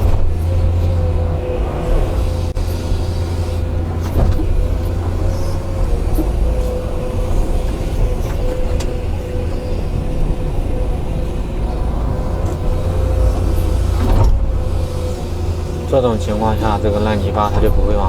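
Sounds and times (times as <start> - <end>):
diesel engine droning: 0.0 - 18.0
high hydraulic whine: 0.0 - 18.0.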